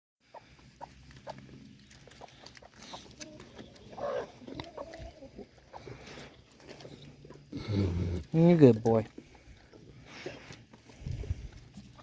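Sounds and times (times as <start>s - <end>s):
short clicks of animals feeding: 0.3s - 12.0s.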